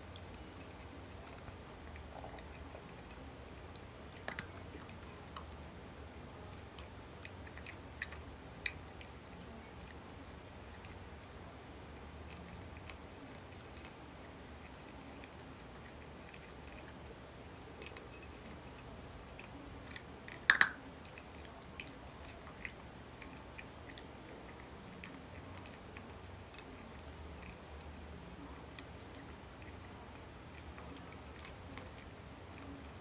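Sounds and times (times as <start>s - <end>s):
cat crunching dry food: 0.1s - 5.7s, 6.6s - 33.0s.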